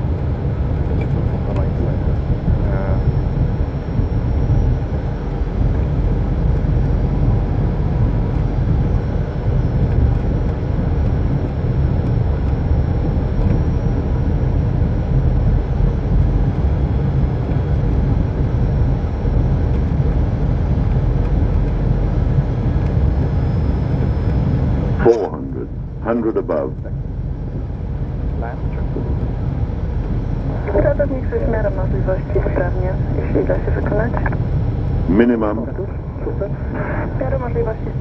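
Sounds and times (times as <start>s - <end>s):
airflow and engine rush: 0.0s - 38.0s
faint high whine: 0.0s - 38.0s.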